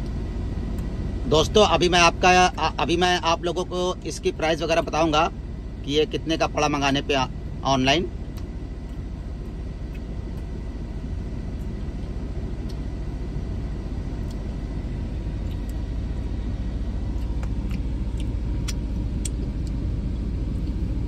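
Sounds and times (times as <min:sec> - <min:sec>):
car interior rumble: 0:00.0 - 0:21.0.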